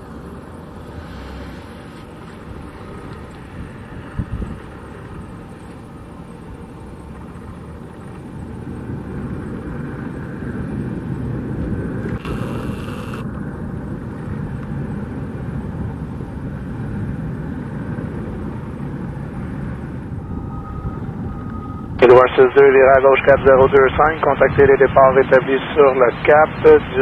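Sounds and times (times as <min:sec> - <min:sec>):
turboprop engines running: 0:00.0 - 0:27.0.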